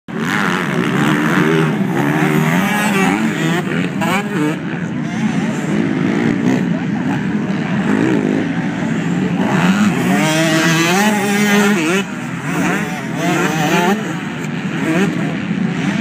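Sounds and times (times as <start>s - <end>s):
motorbike engines revving: 0.1s - 16.0s.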